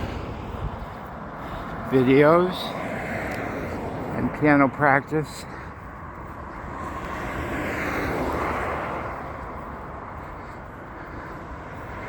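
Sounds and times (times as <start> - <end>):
passing vehicle engine: 0.0 - 12.0.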